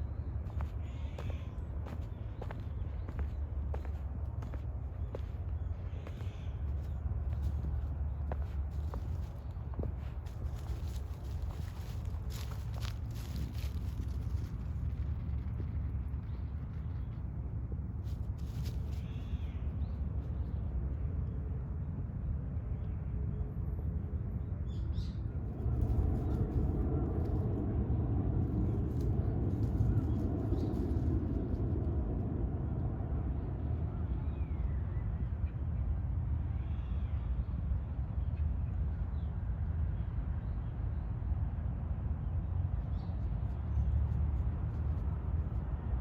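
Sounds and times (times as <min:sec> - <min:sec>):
low outdoor rumble: 0:00.0 - 0:46.0.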